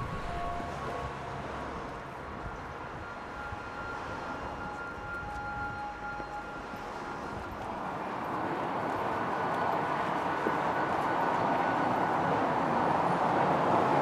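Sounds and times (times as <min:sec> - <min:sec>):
street traffic rushing: 0:00.0 - 0:14.0.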